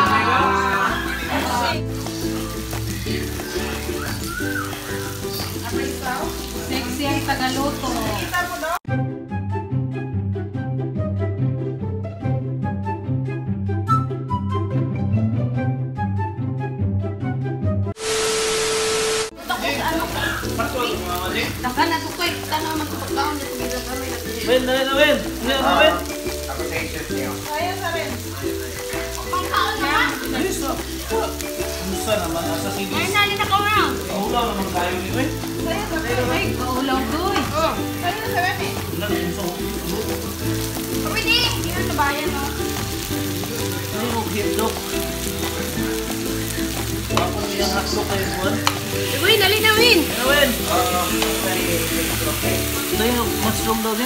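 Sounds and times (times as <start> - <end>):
meat sizzling on a grill: 0.0 - 8.8, 18.0 - 54.0
background music: 0.0 - 18.0, 19.3 - 54.0.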